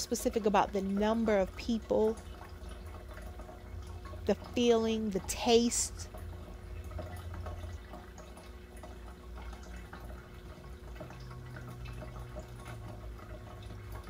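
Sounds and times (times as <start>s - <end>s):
low steady hum: 0.0s - 14.0s
water dripping and trickling: 0.0s - 14.0s.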